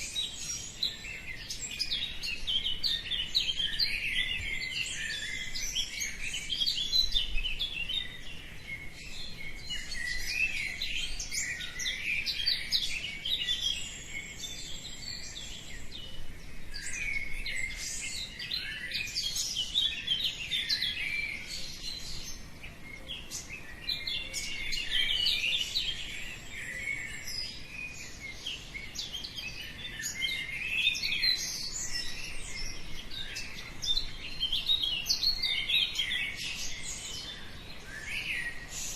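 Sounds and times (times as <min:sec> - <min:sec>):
birds chirping dawn chorus: 0:00.0 - 0:38.9.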